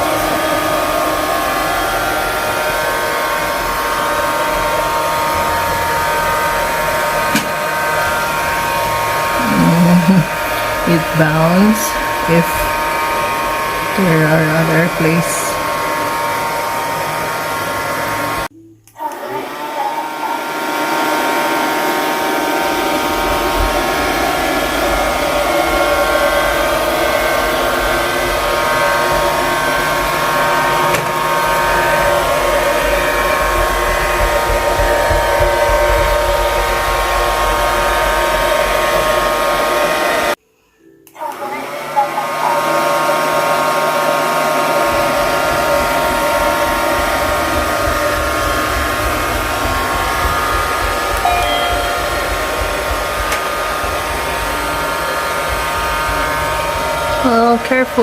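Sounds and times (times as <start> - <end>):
robot vacuum cleaner whirring: 0.0 - 40.4, 41.0 - 58.0.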